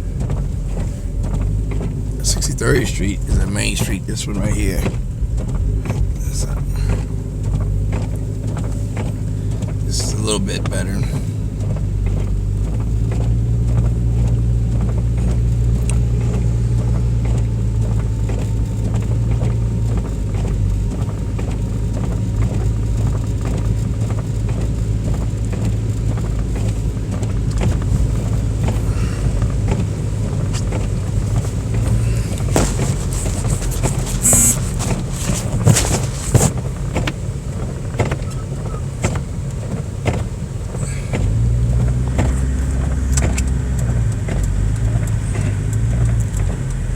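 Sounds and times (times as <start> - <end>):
car engine and road hum: 0.0 - 46.9.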